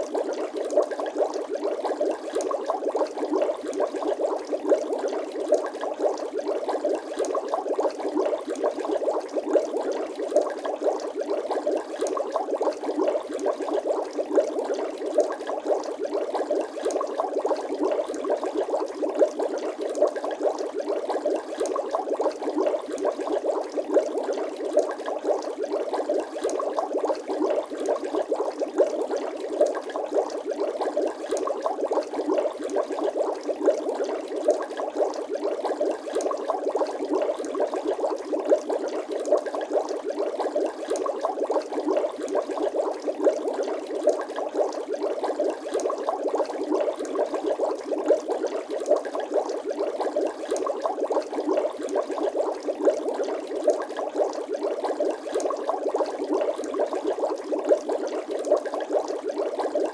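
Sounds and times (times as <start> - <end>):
water bubbling and gurgling: 0.0 - 59.9.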